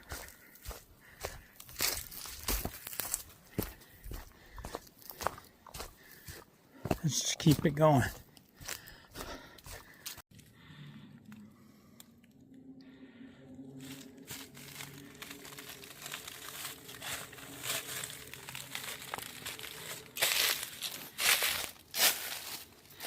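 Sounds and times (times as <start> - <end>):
footsteps crunching through dry leaves: 0.0 - 10.2, 13.8 - 23.0.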